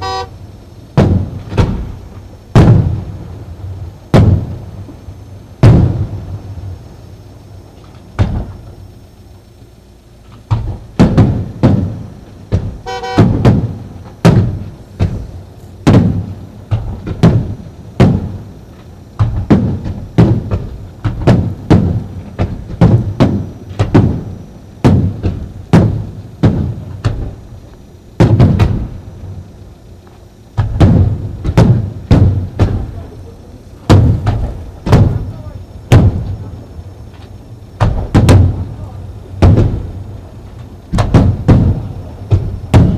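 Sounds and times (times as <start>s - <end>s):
firework shells booming: 0.0s - 9.2s, 10.3s - 42.9s.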